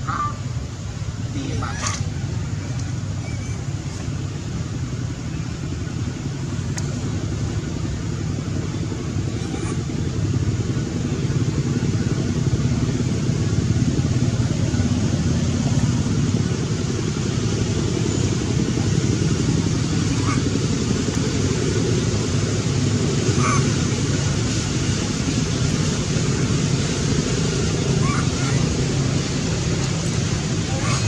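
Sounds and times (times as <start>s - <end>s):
low rumbling noise: 0.0s - 31.0s.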